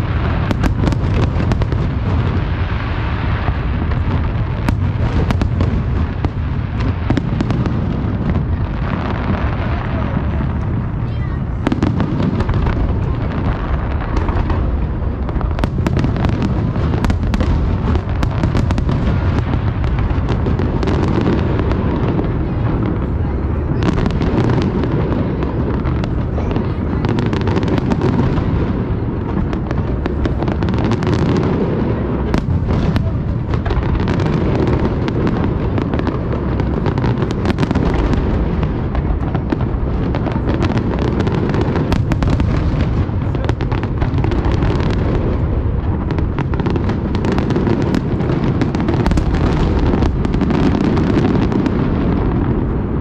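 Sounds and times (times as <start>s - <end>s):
firework booms: 0.0s - 53.0s
firework cracks: 0.0s - 53.0s.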